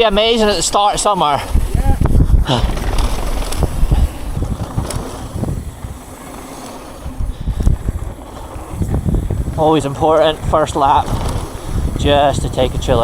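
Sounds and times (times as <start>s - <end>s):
bike knocking and rattling: 0.0s - 13.0s
tyre noise on dirt: 0.0s - 13.0s
wind rumble on microphone: 1.4s - 13.0s.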